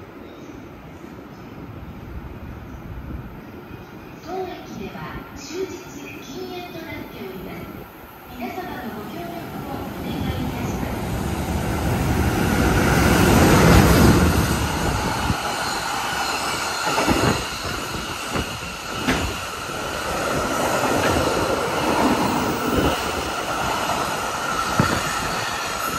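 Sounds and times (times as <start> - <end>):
train rumbling past: 0.1 - 25.9.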